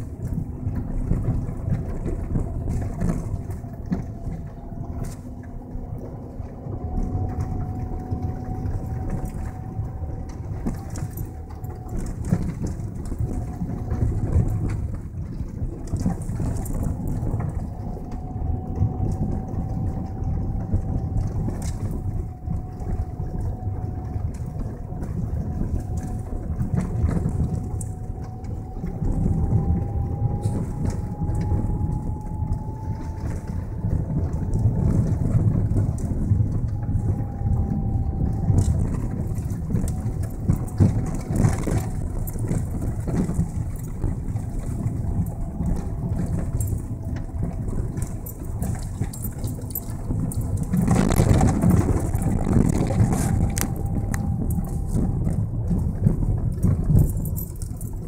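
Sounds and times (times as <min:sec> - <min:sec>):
car engine and tyres rumbling: 0:00.0 - 0:58.0
faint whine: 0:00.0 - 0:58.0.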